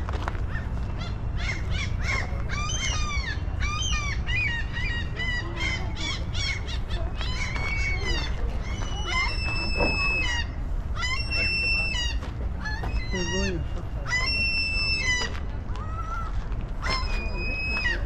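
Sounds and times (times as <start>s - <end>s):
birds calling: 0.0s - 18.0s
steady low rumble: 0.0s - 18.0s.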